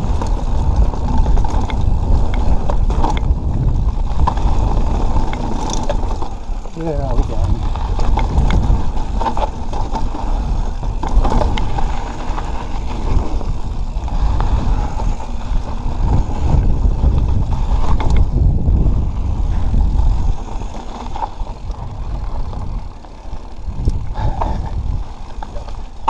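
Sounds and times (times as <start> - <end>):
bike knocking and rattling: 0.0 - 26.0
tyres rolling on dirt: 0.0 - 26.0
wind buffeting microphone: 0.0 - 26.0.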